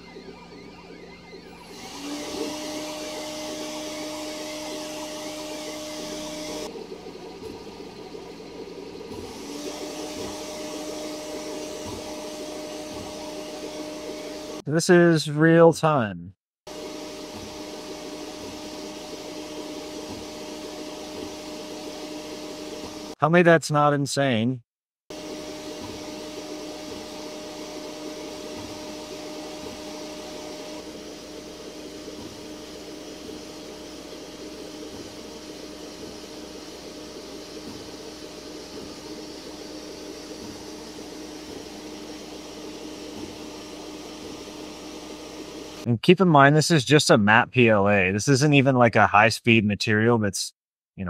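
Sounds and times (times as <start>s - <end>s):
stepper motors whining: 0.0s - 15.7s, 16.7s - 23.2s, 25.1s - 45.9s
cooling fans whirring: 0.0s - 16.0s, 16.7s - 23.2s, 25.1s - 45.9s.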